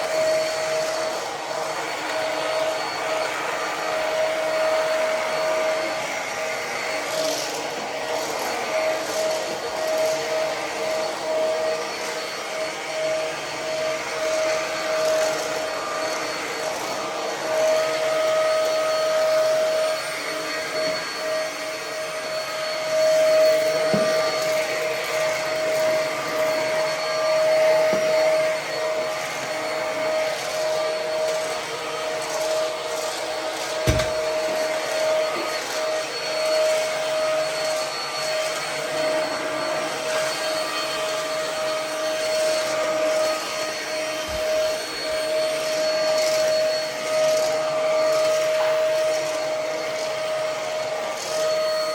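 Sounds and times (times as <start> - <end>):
stick vacuum whine and suction: 0.0 - 51.9.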